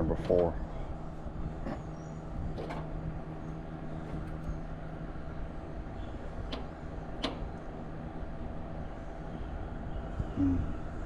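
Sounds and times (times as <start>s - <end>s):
low hum with rumble: 0.0s - 11.0s.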